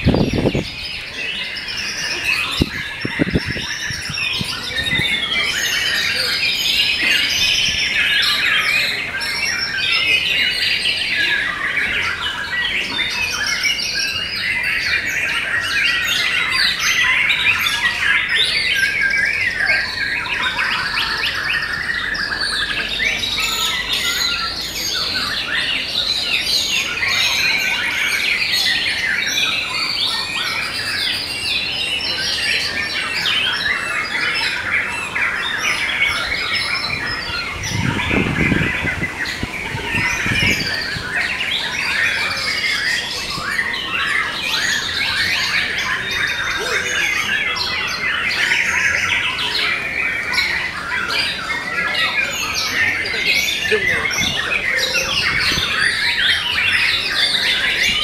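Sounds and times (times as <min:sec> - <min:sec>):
birds singing whistles and chirps: 0:00.0 - 0:58.0.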